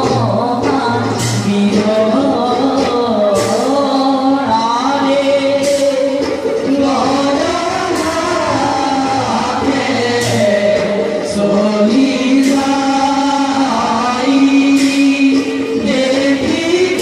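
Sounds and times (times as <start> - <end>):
devotional singing voices: 0.0 - 17.0.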